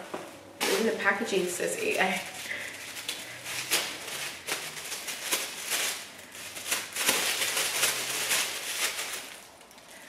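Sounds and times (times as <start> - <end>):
plastic bag rustling and crinkling: 0.3 - 10.0.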